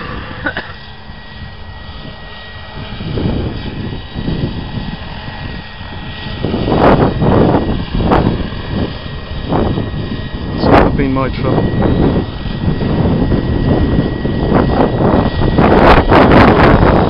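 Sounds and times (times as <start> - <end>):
model helicopter engine and rotor: 0.0 - 17.0.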